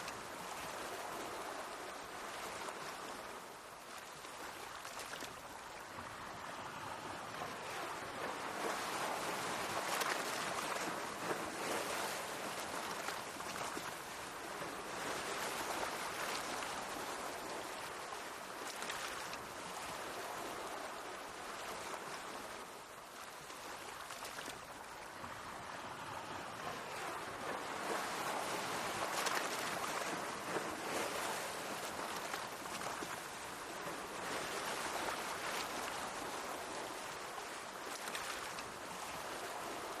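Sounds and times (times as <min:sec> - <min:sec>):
sea waves washing in: 0:00.0 - 0:40.0.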